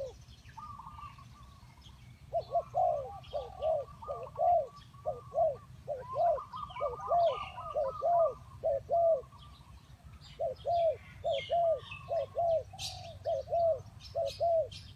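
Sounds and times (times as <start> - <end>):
doves cooing: 0.0 - 14.9
small birds chirping: 0.0 - 14.9.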